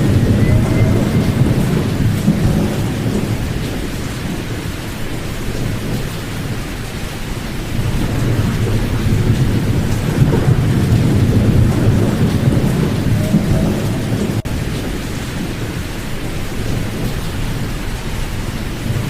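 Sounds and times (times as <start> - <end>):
deep rumbling pink noise: 0.0 - 19.0.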